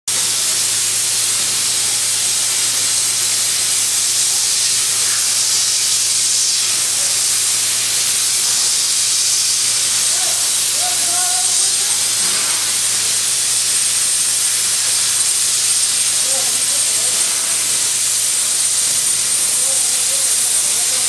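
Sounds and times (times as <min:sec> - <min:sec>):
plasma torch hissing: 0:00.1 - 0:21.0
steady low hum: 0:00.6 - 0:21.0.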